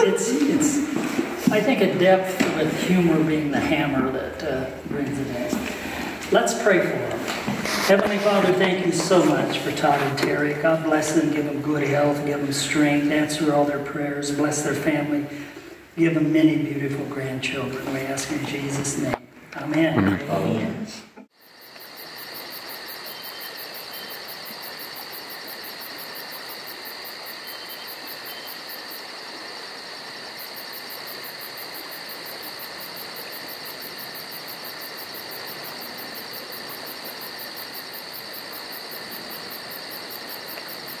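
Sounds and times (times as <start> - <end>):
crickets chirring: 0.0 - 19.0, 21.3 - 41.0.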